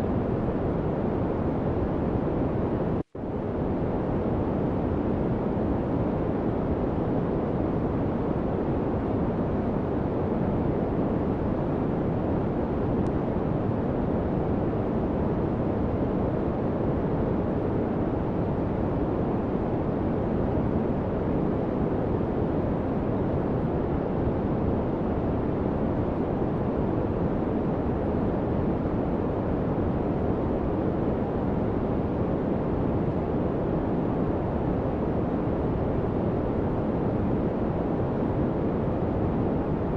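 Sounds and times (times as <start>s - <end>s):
steady white noise rushing: 0.0s - 39.9s.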